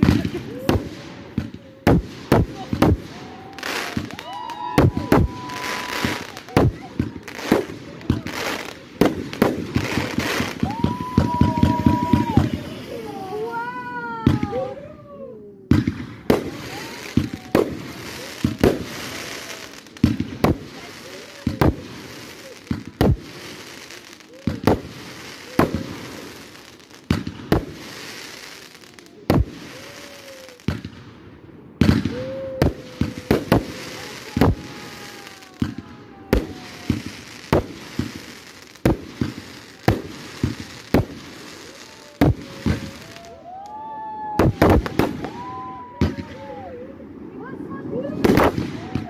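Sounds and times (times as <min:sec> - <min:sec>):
fireworks hiss: 0:00.0 - 0:13.9, 0:15.7 - 0:31.1, 0:31.8 - 0:43.3
fireworks bangs: 0:00.0 - 0:49.0.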